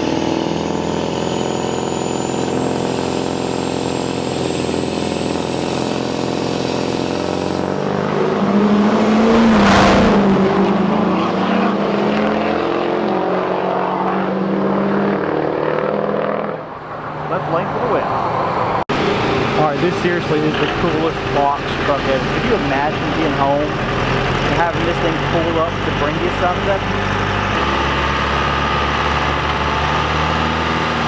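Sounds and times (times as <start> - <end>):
truck engine drone with whine: 0.0 - 31.0.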